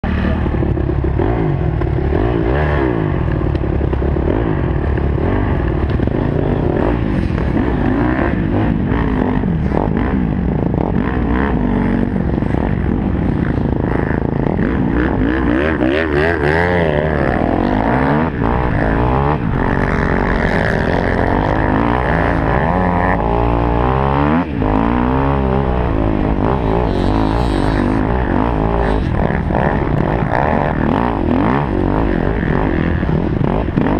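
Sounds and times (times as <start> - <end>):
motocross engine revving: 0.0 - 33.9.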